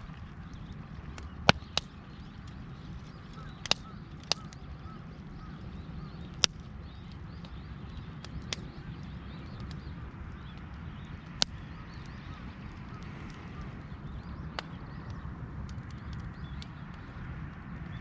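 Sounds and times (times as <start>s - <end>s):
fire pops: 0.0s - 4.9s, 5.7s - 18.0s
campfire crackling: 0.0s - 18.0s
steady low rumble: 0.0s - 18.0s.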